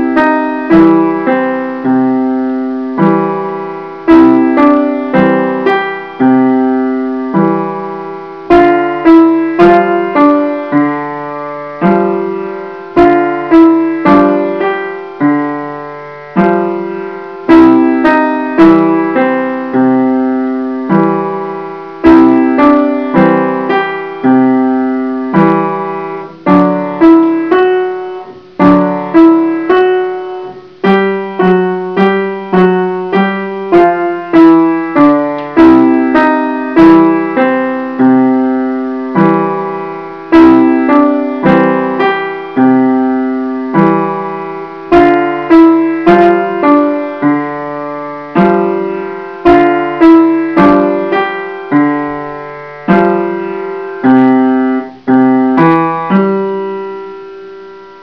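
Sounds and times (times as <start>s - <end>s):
upright piano playing: 0.0s - 58.0s.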